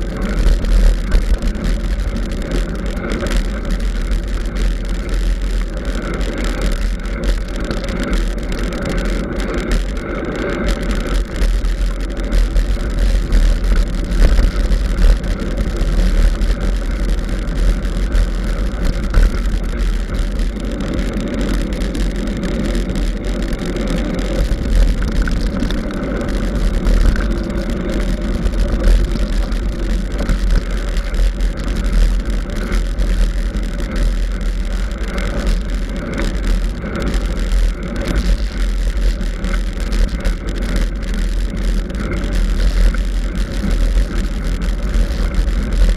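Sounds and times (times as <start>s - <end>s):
bike rattling on rough ground: 0.0s - 45.9s
wind buffeting microphone: 0.0s - 45.9s.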